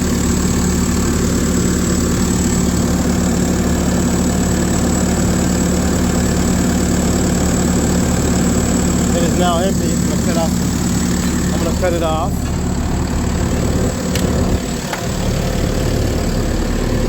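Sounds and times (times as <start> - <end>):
air-conditioning compressor running: 0.0 - 17.0
diesel engine idling: 0.0 - 17.0.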